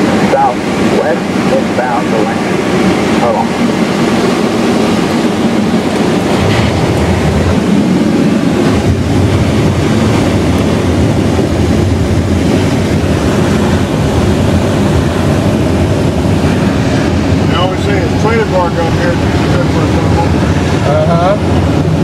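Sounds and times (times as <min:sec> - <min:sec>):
airflow rushing over cockpit: 0:00.0 - 0:22.0.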